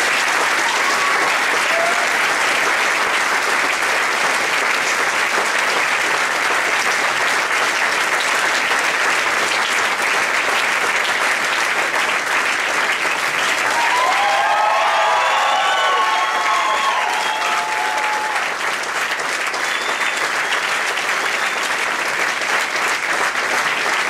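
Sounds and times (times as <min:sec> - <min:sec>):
crowd applauding: 0:00.0 - 0:24.0.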